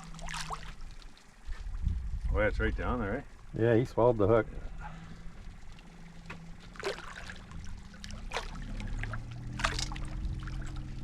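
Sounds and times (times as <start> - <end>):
low steady hum: 0.0 - 11.0
water splashing and trickling: 0.0 - 11.0.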